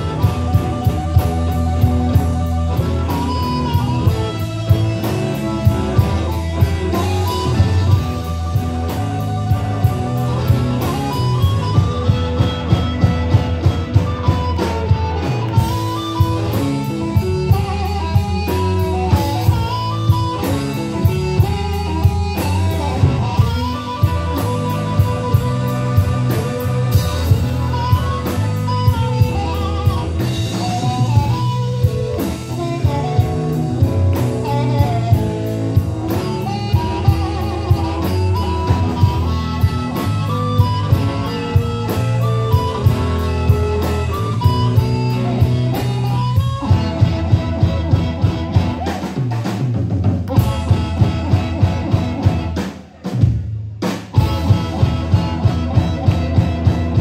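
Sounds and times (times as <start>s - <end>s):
blues band playing: 0.0s - 57.0s
drum kit beat: 0.0s - 57.0s
guitar: 0.0s - 57.0s.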